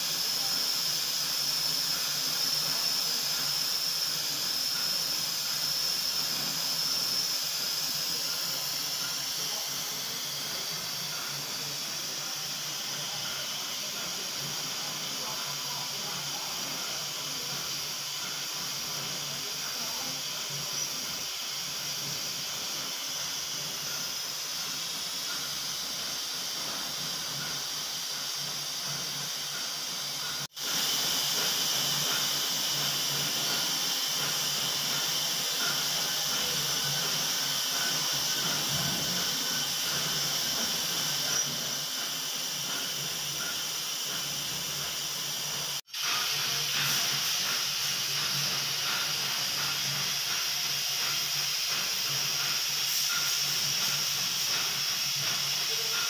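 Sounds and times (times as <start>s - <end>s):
machining centre hissing: 0.0s - 56.0s.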